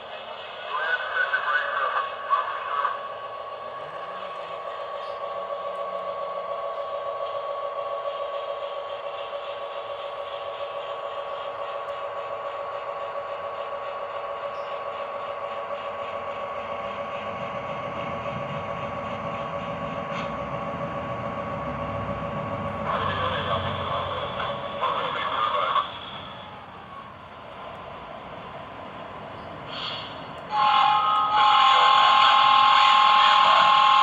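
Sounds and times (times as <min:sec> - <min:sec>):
toy locomotive engine sound hum: 0:00.0 - 0:34.0.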